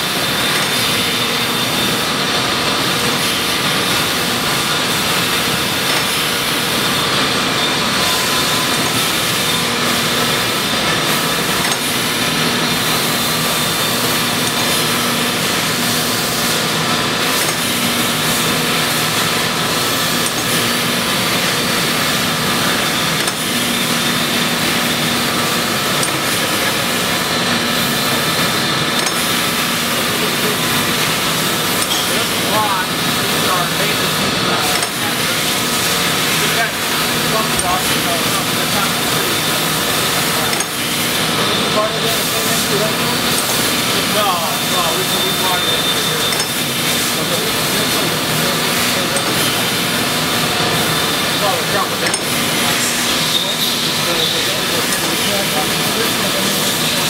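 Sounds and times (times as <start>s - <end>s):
surface grinder high whine: 0.0s - 57.0s.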